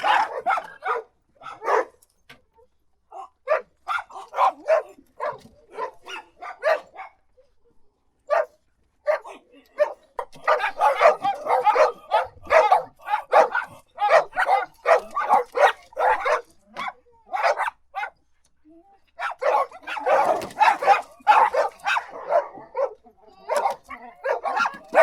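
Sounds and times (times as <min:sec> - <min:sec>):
dog barking: 0:00.0 - 0:02.0, 0:03.1 - 0:07.3, 0:08.3 - 0:18.2, 0:19.2 - 0:25.0.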